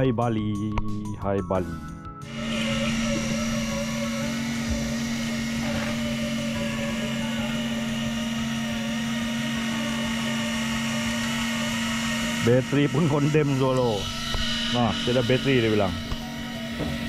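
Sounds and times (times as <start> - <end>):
electric reel motor whining: 2.2 - 17.0.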